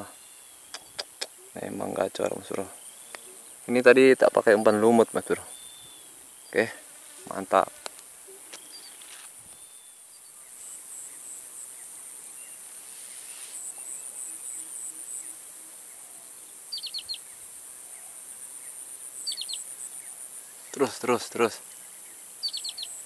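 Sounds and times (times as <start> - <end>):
insects droning: 0.0 - 23.0
pulsing insect trill: 0.0 - 23.0.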